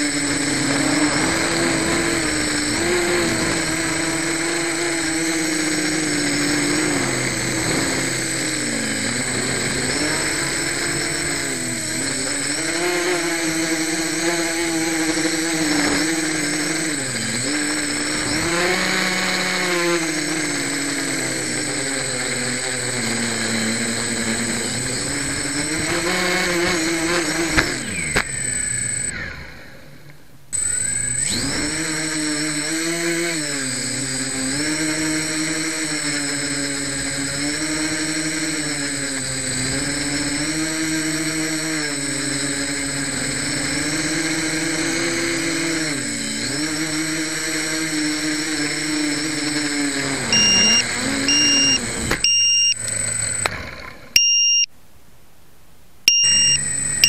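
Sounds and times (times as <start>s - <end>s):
quadcopter motors whining: 0.0s - 54.7s, 56.1s - 57.0s.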